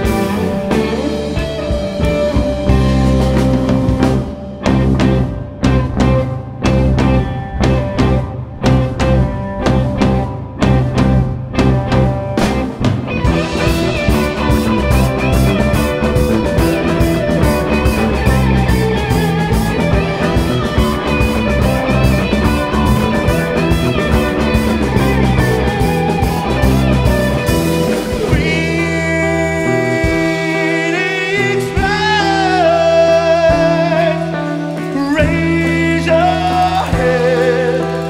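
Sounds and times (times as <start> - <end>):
bass guitar: 0.0 - 38.0
drum kit: 0.0 - 38.0
electric guitars: 0.0 - 38.0.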